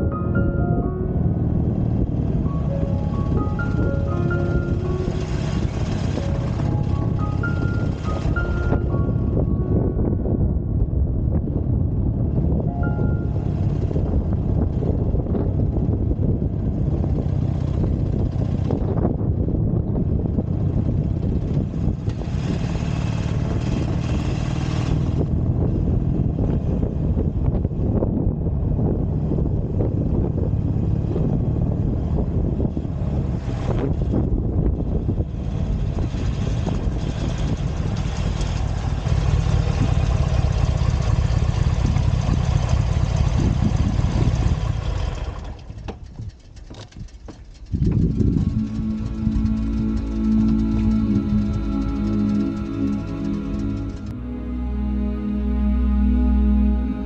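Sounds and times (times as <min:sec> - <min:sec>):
motorcycle engine running: 0:00.0 - 0:10.5, 0:11.2 - 0:54.2
wind noise on microphone: 0:00.0 - 0:57.0.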